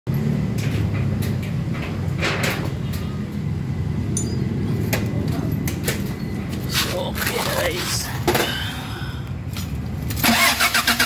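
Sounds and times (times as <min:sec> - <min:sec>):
engine low rumble: 0:00.1 - 0:11.0.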